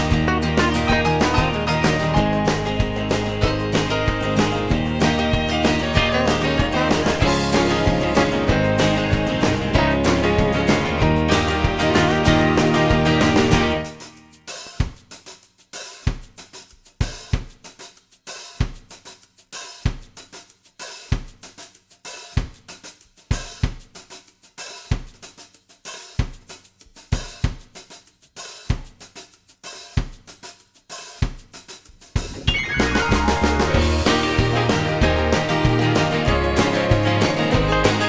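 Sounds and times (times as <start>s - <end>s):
drum kit beat: 0.0s - 38.0s.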